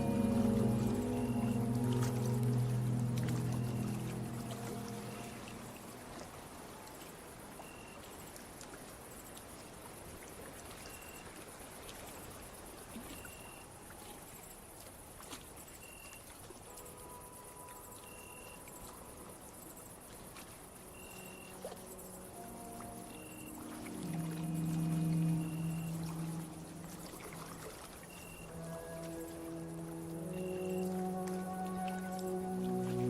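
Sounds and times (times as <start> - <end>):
crickets chirping: 0.0 - 8.3, 9.0 - 33.0.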